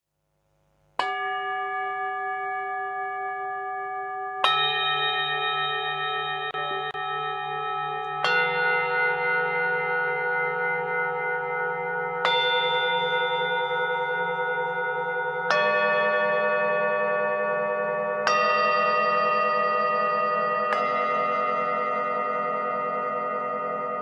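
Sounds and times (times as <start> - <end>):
singing bowls ringing: 1.0 - 24.0.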